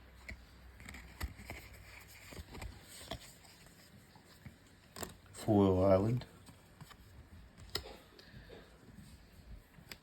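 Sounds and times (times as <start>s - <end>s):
trading cards clicking and rustling: 0.1s - 8.2s.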